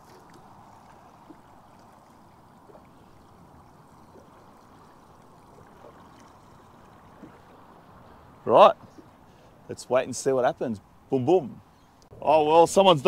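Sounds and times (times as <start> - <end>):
water lapping against boat hull: 0.0 - 12.1.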